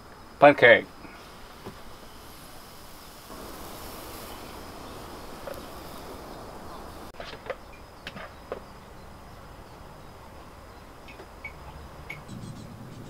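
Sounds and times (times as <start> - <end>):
faint high whine: 0.0 - 13.0
outdoor hiss: 0.0 - 13.0.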